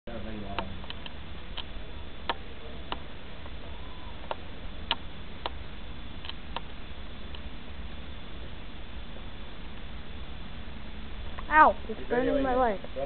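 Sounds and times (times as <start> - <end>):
fire crackling: 0.2 - 13.0
fire hissing: 0.2 - 13.0.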